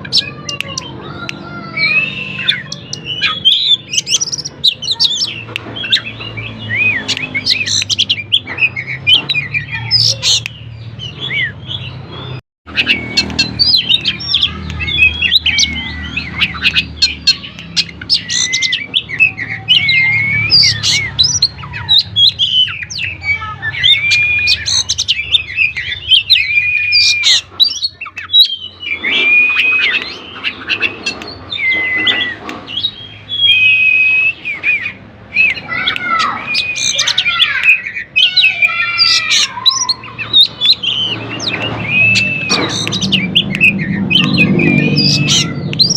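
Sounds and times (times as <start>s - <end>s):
bird singing: 0.0s - 45.9s.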